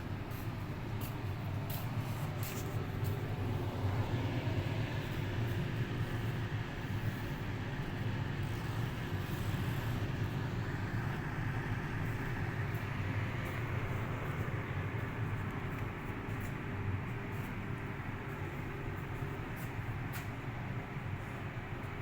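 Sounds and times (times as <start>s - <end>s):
dehumidifier hum and hiss: 0.0s - 22.0s.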